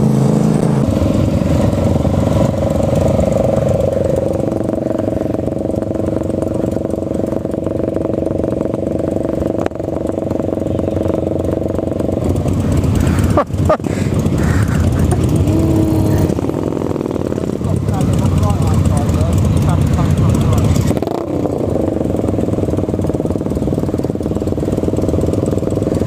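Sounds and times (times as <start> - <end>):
motorcycle engines idling: 0.0 - 26.0.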